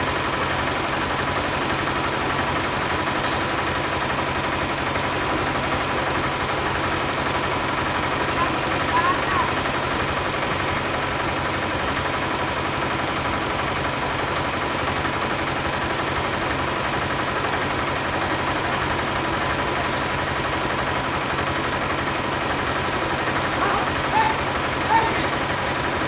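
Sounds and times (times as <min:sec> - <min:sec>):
diesel bus engine idling: 0:00.0 - 0:26.0.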